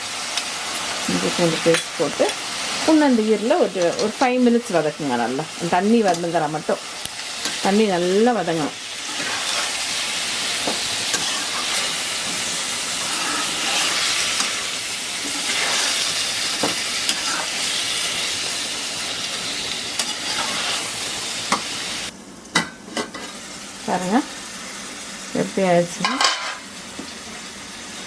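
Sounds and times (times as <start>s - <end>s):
liver sizzling in hot oil: 0.0s - 28.0s.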